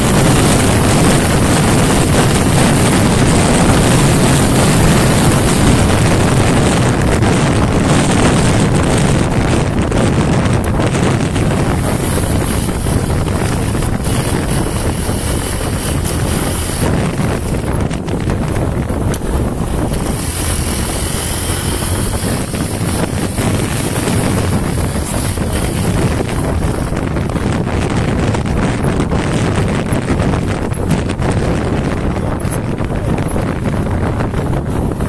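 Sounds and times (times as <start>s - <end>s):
motorcycle engine running at speed: 0.0s - 35.0s
wind rush on microphone: 0.0s - 35.0s.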